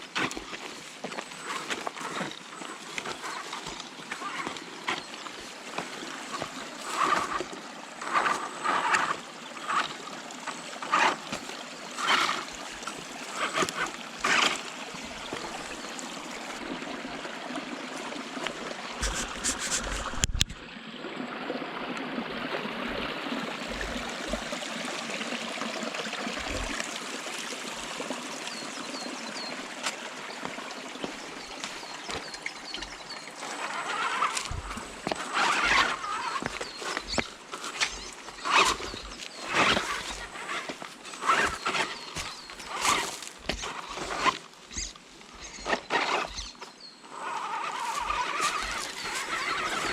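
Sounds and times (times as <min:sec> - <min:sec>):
short rushing bursts of water: 0:00.0 - 0:49.9
stream water flowing: 0:00.0 - 0:49.9.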